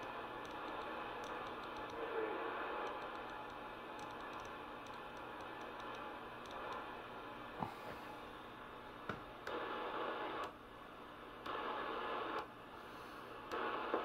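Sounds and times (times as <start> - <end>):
radio static hiss: 0.0 - 8.4, 9.4 - 10.6, 11.4 - 14.0.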